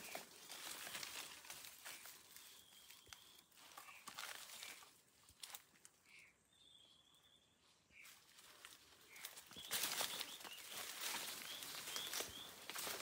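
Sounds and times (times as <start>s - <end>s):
footsteps through dry leaves: 0.0s - 5.7s, 8.0s - 13.0s.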